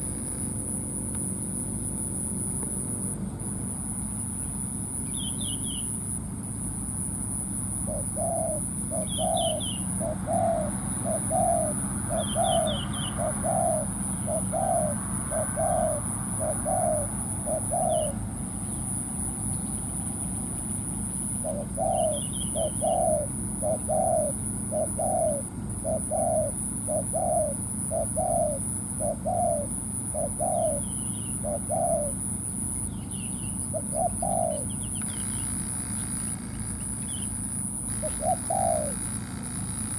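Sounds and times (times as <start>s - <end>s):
high-pitched whine: 0.0s - 39.9s
small birds chirping: 3.8s - 39.2s
dove cooing: 7.7s - 39.8s.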